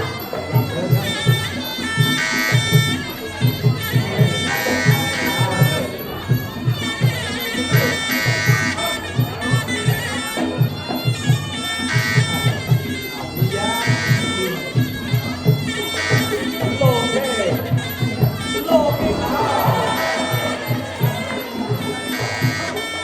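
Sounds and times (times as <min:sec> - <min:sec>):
drums beating: 0:00.0 - 0:23.0
reedy oboe melody: 0:00.0 - 0:23.0.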